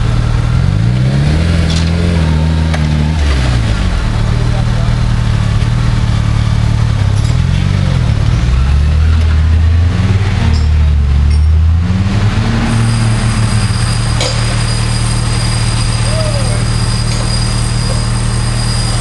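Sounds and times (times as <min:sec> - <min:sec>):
vehicle engine at low revs: 0:00.0 - 0:19.0.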